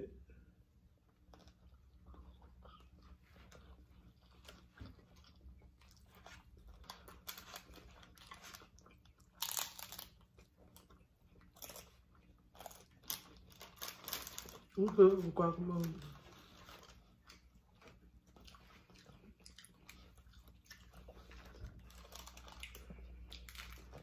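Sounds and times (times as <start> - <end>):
quiet chewing: 0.8 - 24.0
taco shells crunching: 1.1 - 24.0.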